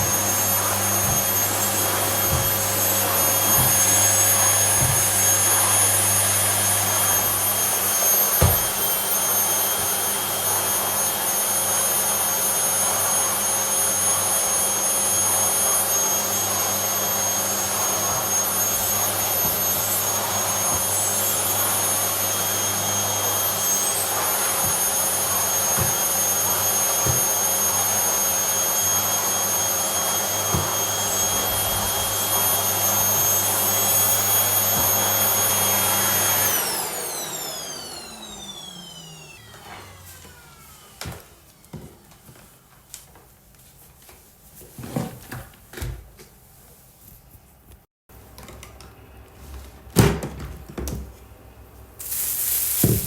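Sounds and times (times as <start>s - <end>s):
vacuum cleaner running: 0.0s - 42.7s, 51.9s - 53.0s.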